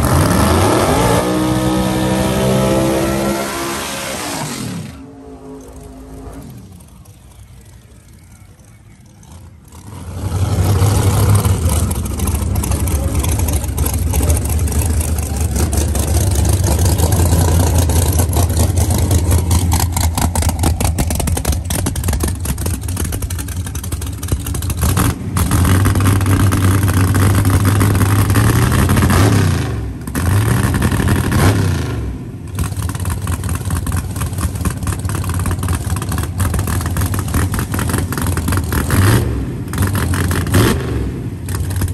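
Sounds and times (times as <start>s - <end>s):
vvee engine rough idle: 4.8s - 29.2s, 32.2s - 41.9s.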